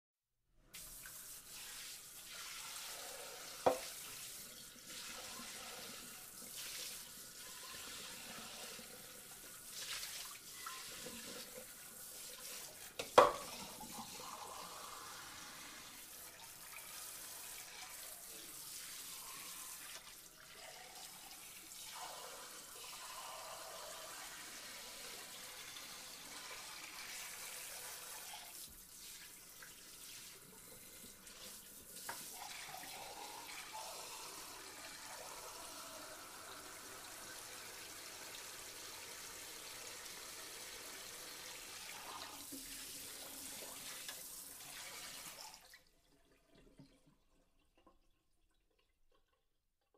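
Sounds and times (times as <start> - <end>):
water spraying over dishes: 0.8 - 45.6.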